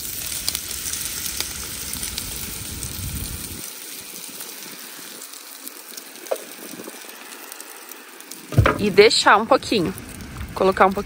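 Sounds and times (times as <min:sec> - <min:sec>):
eggs sizzling in a frying pan: 0:00.0 - 0:11.0.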